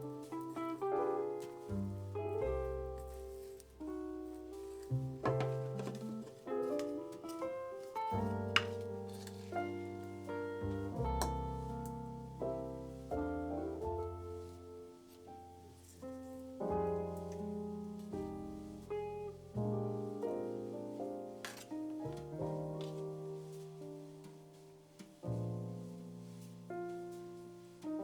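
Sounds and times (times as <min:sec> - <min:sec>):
slow piano chords: 0:00.0 - 0:28.0.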